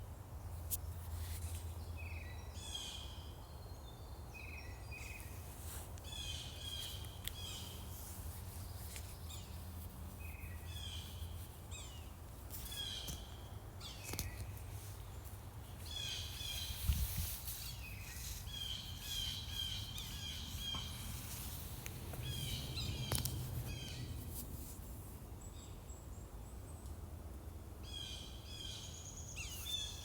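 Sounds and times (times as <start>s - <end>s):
songbirds singing: 1.6s - 24.3s, 25.2s - 30.0s.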